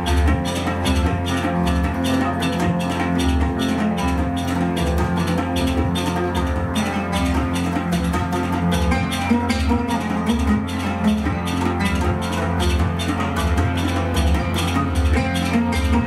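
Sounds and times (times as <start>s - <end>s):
oud plucked: 0.0s - 16.0s
tabla strokes: 0.0s - 16.0s.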